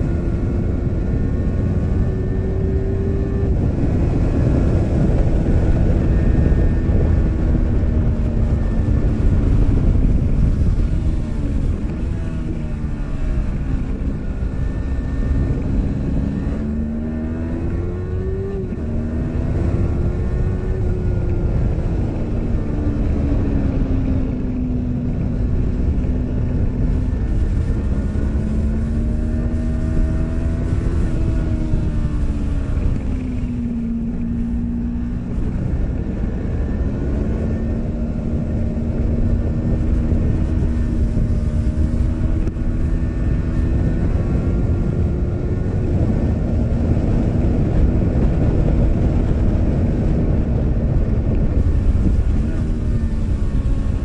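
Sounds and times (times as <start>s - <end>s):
motorcycle engine running hard: 0.0s - 54.0s
wind on microphone: 0.0s - 54.0s.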